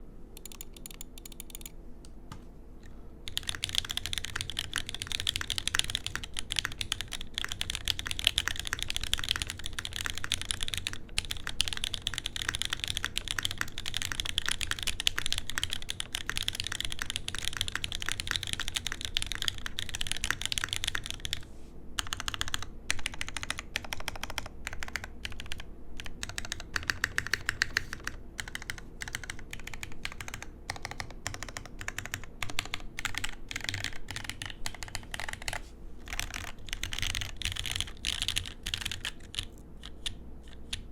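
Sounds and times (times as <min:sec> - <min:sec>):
typing on mechanical keyboard: 0:00.4 - 0:01.7, 0:03.3 - 0:21.4, 0:22.0 - 0:40.9.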